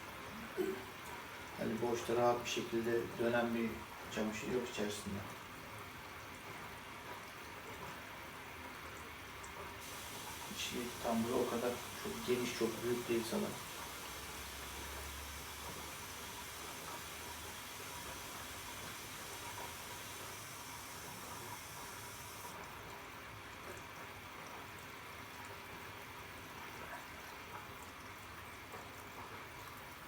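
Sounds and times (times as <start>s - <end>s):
water running into washing machine: 0.0s - 30.0s.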